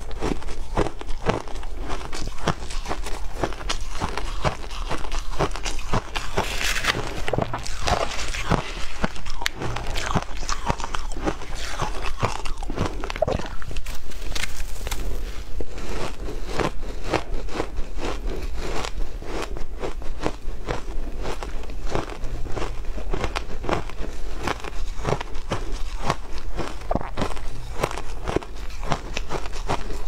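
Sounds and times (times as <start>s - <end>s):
crunching ice being chewed: 0.0s - 30.0s.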